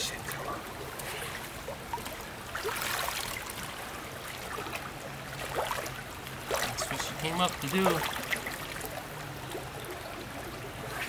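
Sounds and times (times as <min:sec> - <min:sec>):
creek water trickling over stones: 0:00.0 - 0:11.0
water splash: 0:00.0 - 0:11.0.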